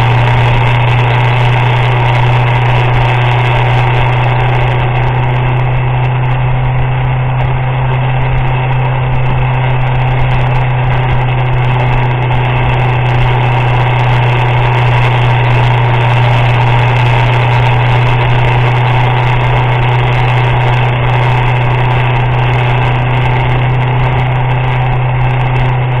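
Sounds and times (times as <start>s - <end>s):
motorcycle engine droning: 0.0s - 26.0s.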